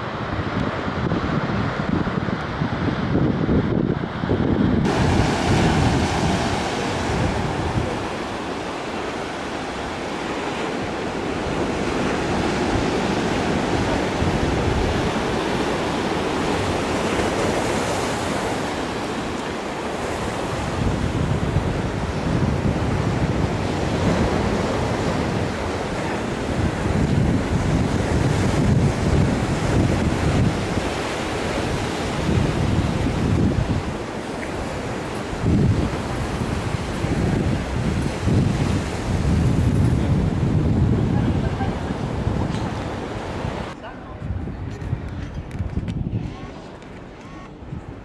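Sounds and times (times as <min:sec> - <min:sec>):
wind buffeting microphone: 0:00.0 - 0:48.0
surf breaking on rocks: 0:04.8 - 0:43.8.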